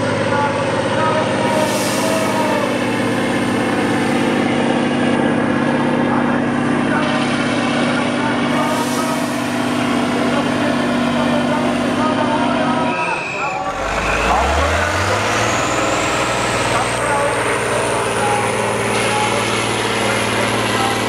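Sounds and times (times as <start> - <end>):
heavy diesel truck engine: 0.0 - 21.0.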